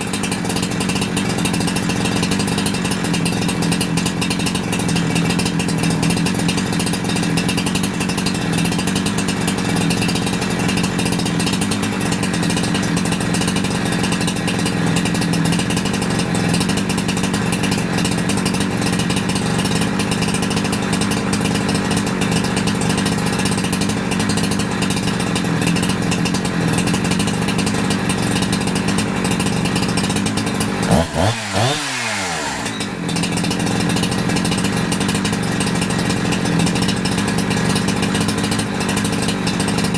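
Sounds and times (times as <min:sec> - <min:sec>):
chainsaw engine idling: 0:00.0 - 0:39.9
chainsaw throttle blip: 0:00.0 - 0:39.9.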